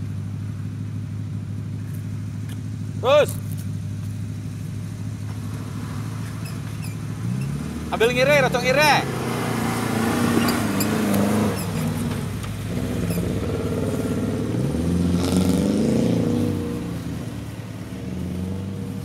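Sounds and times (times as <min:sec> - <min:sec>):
off-roader engine revving: 0:00.0 - 0:19.0.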